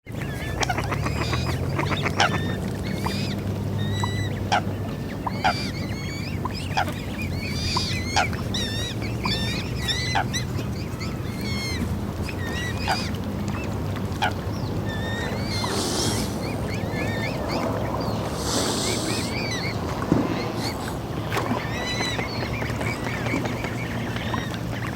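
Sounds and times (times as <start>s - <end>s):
steady low rumble: 0.1s - 24.9s
swans calling: 0.1s - 24.9s.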